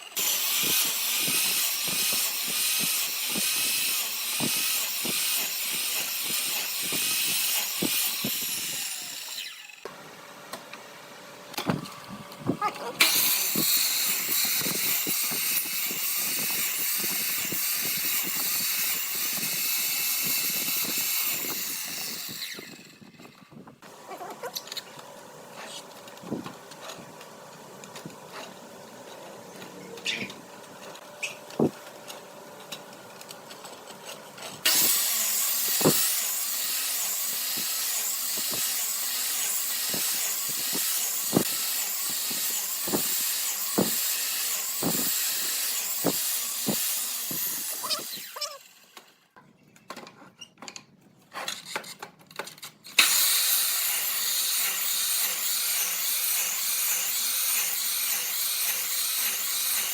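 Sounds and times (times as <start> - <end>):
power tool working wood: 0.0 - 49.1, 53.0 - 59.9.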